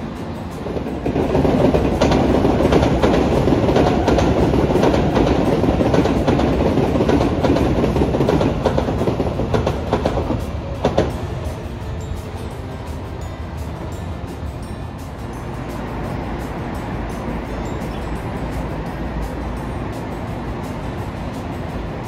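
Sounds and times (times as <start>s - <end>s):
train wheels clacking on rails: 0.0s - 22.0s.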